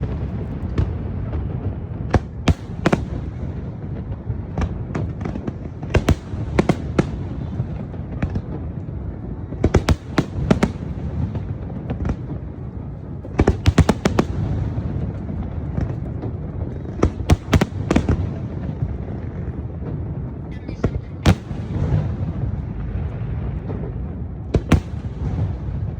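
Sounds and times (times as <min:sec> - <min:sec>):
fireworks bangs: 0:00.0 - 0:25.9
low rumble: 0:00.0 - 0:25.9.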